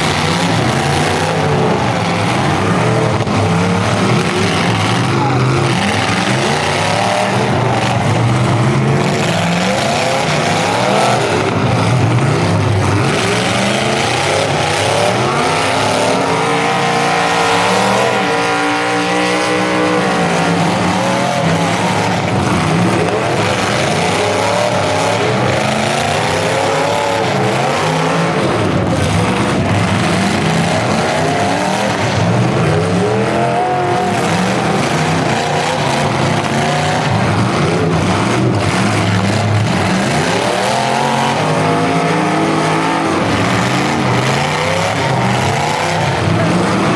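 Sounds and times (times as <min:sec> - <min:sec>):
car engines revving together: 0:00.0 - 0:46.9.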